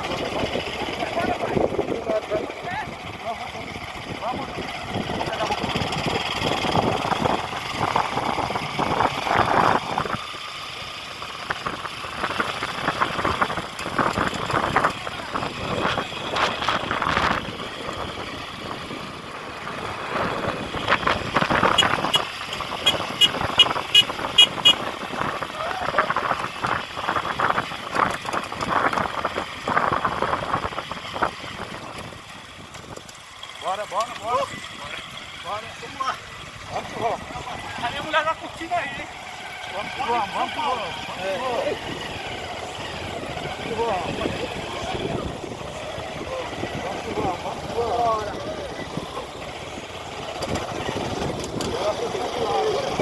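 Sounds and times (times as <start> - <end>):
vehicle engine running roughly: 0.0 - 53.0.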